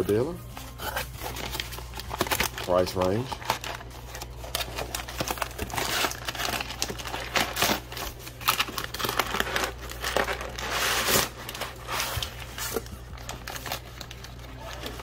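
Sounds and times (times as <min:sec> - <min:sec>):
packing paper crumpling: 0:00.0 - 0:15.0.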